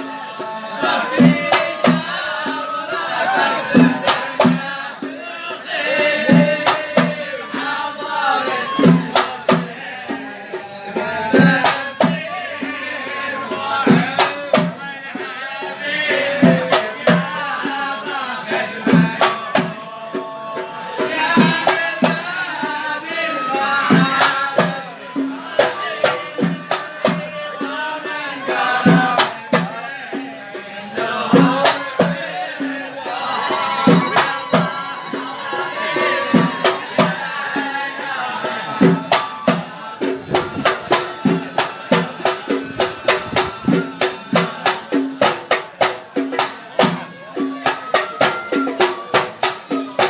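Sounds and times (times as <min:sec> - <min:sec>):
men singing folk song: 0:00.0 - 0:50.0
sharp hand-drum strikes: 0:00.0 - 0:50.0
steady drum beat: 0:00.0 - 0:50.0.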